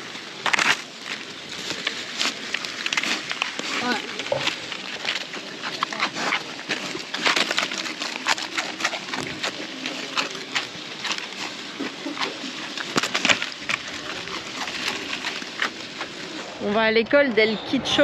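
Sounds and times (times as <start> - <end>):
piglet crunching bread: 0.0 - 16.7.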